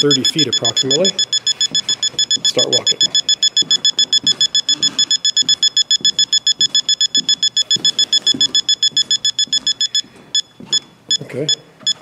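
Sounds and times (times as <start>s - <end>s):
rapid high-pitched beeps: 0.0s - 10.5s.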